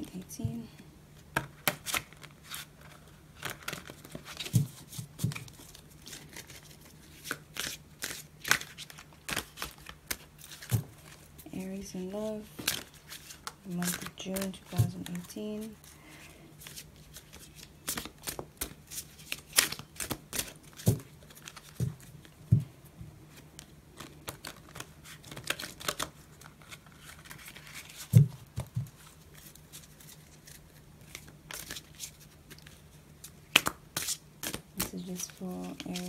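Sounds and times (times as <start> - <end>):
faint low hum: 0.0 - 36.0
cards being shuffled: 1.4 - 11.3, 12.2 - 15.9, 16.6 - 22.6, 23.3 - 36.0.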